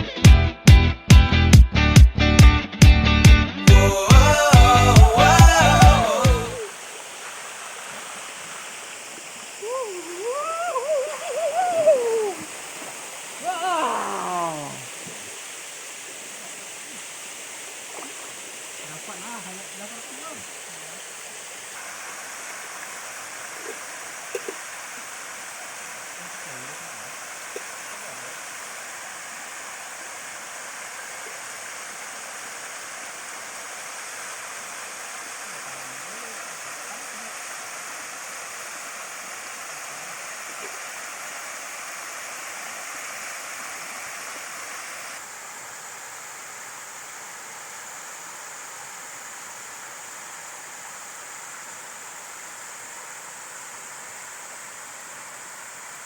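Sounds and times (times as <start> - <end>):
rushing river water: 3.7 - 56.0.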